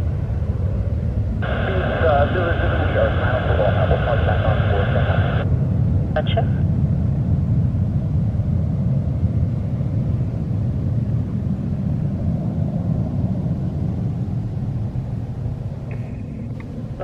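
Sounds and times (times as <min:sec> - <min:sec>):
airliner engines rumbling: 0:00.0 - 0:17.0.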